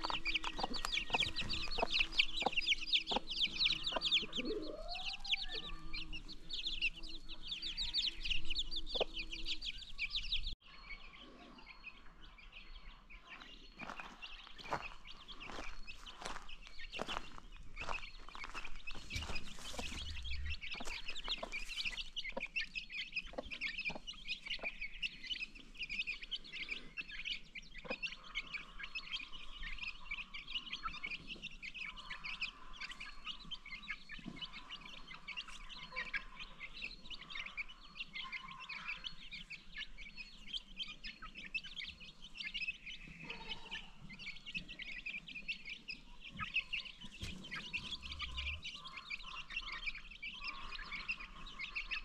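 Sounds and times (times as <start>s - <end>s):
baby chicks peeping: 0.0s - 52.0s.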